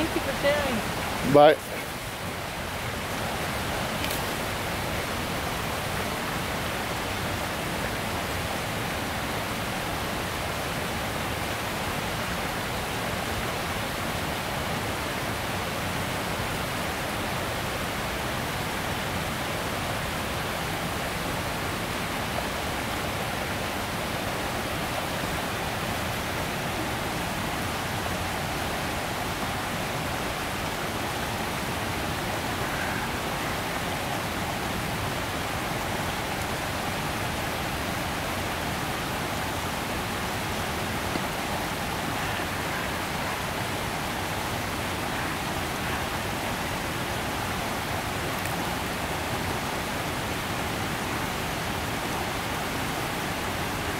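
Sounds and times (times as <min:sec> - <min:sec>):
running water rushing: 0:00.0 - 0:53.9.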